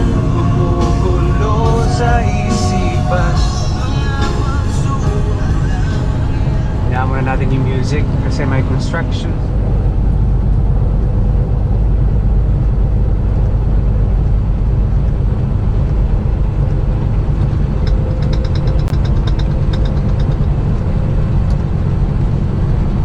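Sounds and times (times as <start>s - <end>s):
road noise: 0.0s - 23.0s
truck engine rumble: 0.0s - 23.0s.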